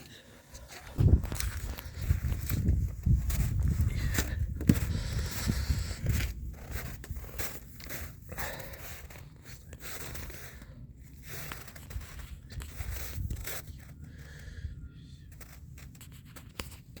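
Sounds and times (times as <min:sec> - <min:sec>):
steady low rumble: 0:00.4 - 0:15.8.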